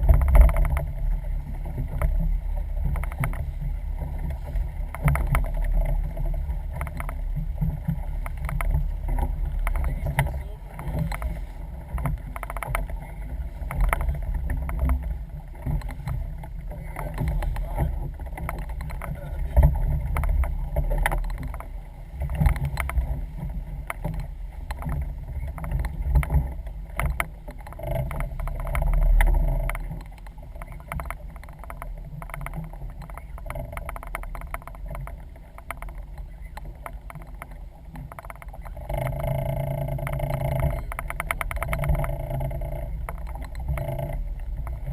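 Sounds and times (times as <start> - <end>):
sharp knocks and clicks: 0.0 - 1.0, 1.7 - 13.0, 13.6 - 44.9
low boat rumble: 0.0 - 44.9.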